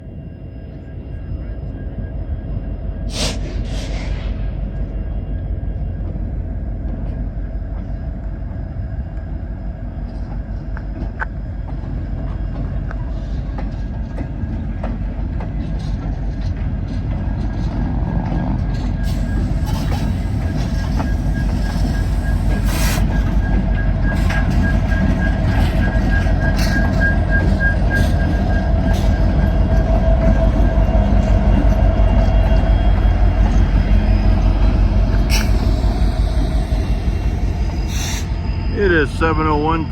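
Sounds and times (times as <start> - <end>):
diesel locomotives rumbling: 0.0 - 39.9
locomotive whine: 0.0 - 39.9.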